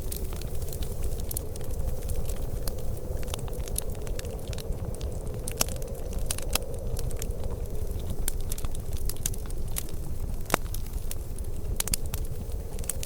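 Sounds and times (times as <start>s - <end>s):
low rumble of fire: 0.0s - 13.0s
wood fire crackling: 0.0s - 13.0s.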